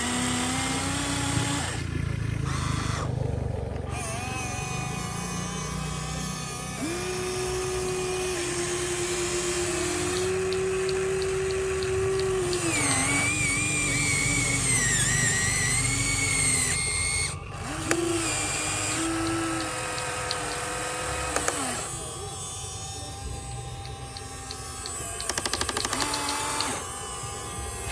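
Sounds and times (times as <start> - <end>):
toy excavator motors whining: 0.0 - 27.9.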